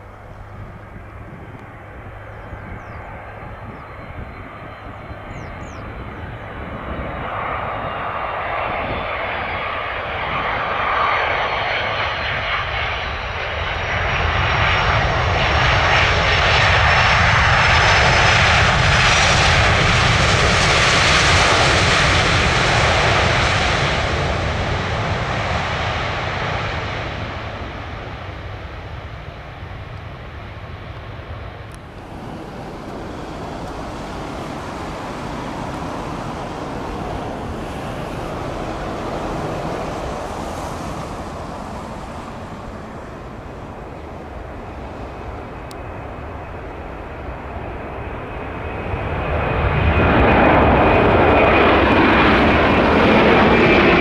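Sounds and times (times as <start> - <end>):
faint high engine whine: 0.0 - 54.0
jet airliner passing: 0.0 - 54.0.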